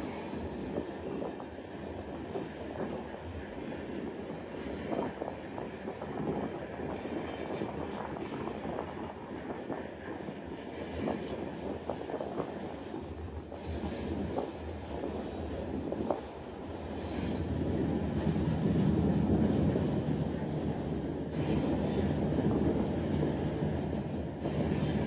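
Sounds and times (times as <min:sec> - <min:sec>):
train wheels rattling on rails: 0:00.0 - 0:25.0.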